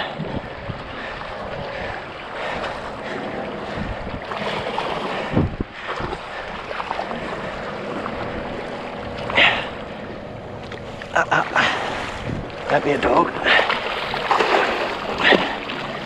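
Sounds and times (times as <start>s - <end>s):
seawater splashing against boat: 0.0s - 16.0s
wind buffeting microphone: 0.0s - 16.0s.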